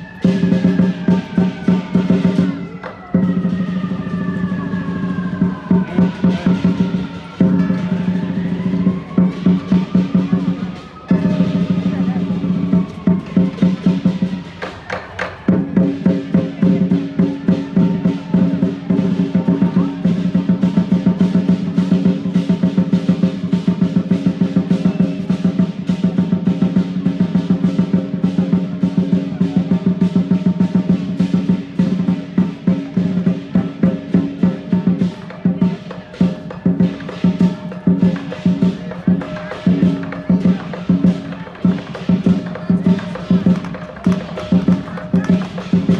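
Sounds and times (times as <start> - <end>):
big drum beaten in rolls: 0.0 - 45.9
gong and cymbals ringing: 6.0 - 14.4, 15.5 - 45.9.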